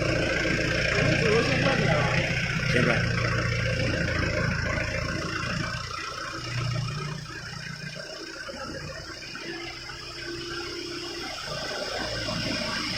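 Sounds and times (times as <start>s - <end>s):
router spindle high whine: 0.0s - 12.9s.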